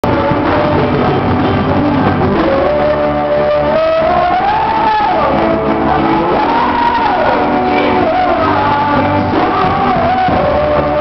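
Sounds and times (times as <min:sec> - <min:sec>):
drum kit: 0:00.0 - 0:11.0.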